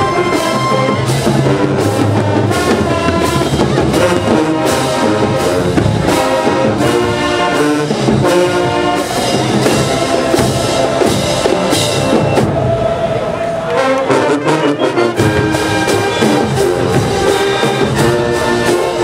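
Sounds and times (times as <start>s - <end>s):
snare and bass drums: 0.0s - 12.8s, 15.1s - 19.0s
brass band chords: 0.0s - 19.0s.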